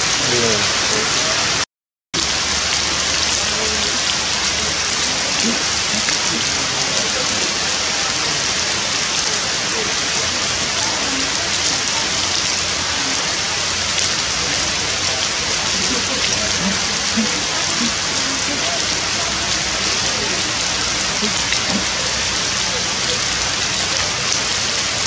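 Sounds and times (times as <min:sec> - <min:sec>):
rain falling on leaves: 0:00.0 - 0:01.6, 0:02.2 - 0:25.0.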